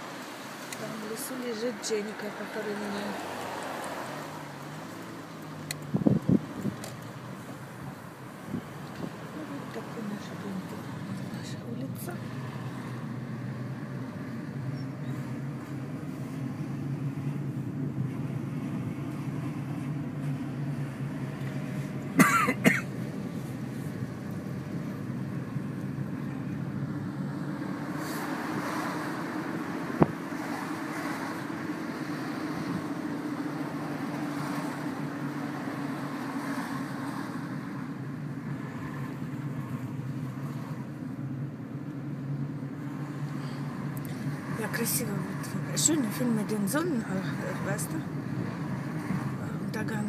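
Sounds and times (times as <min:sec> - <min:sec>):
car engine drone and road noise: 0:00.0 - 0:50.0.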